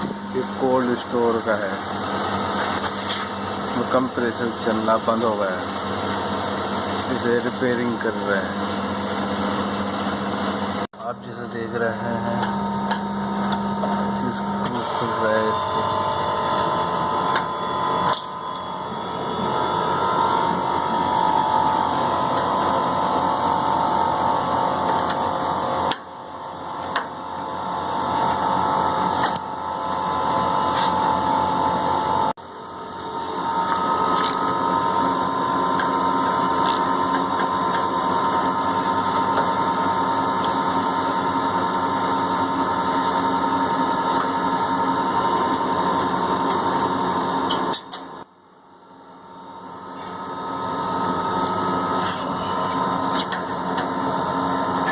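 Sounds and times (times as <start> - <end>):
electric machine humming: 0.0 - 54.9.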